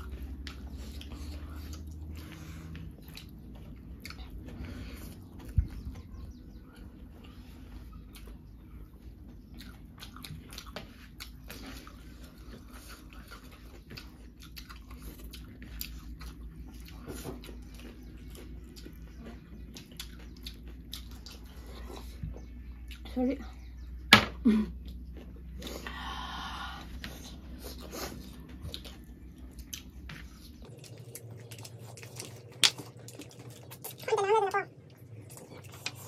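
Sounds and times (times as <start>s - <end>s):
chewing with mouth clicks: 0.0s - 23.9s, 24.7s - 26.0s, 26.8s - 36.0s.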